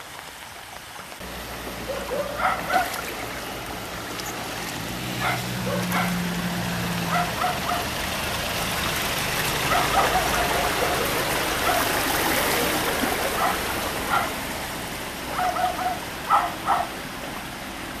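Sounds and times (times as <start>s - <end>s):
water rushing around vehicle wheels: 0.0s - 18.0s.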